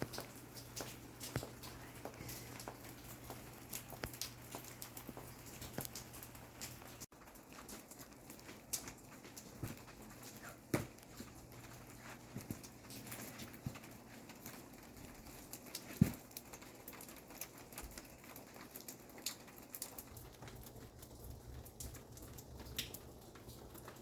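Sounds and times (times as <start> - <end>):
freezing rain pattering: 0.0 - 24.0.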